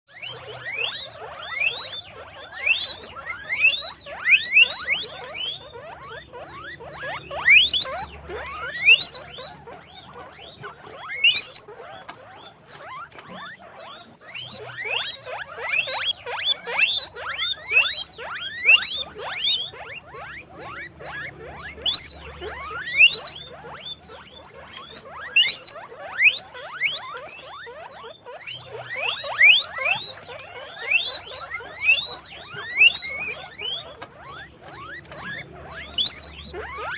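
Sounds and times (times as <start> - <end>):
guinea pigs squeaking: 0.1 - 36.9.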